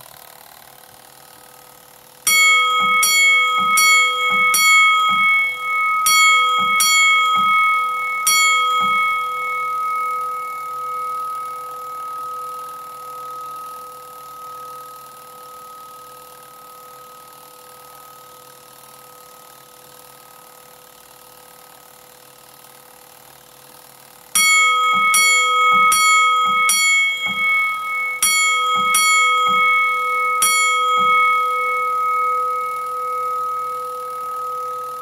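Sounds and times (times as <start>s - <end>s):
fire alarm bell ringing: 2.3s - 21.0s, 24.3s - 35.0s.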